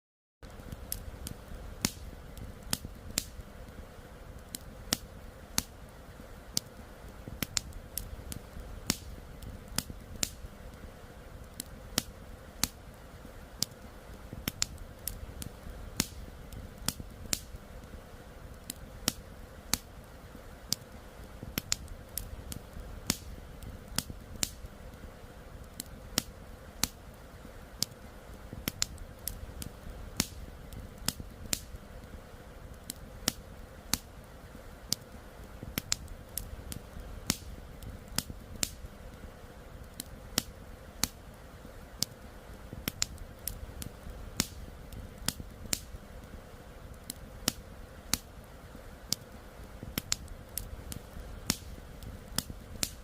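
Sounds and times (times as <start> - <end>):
campfire crackling: 0.4 - 53.0.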